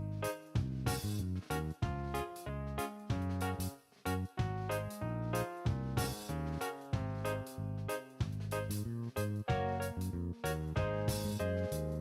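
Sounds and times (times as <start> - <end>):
bouncy piano tune with bass: 0.0 - 12.0.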